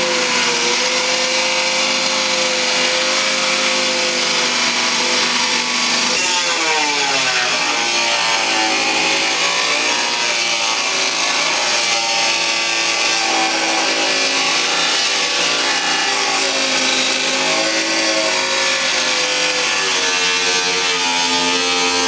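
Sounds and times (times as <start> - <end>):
angle grinder cutting fiberglass: 0.0 - 22.0.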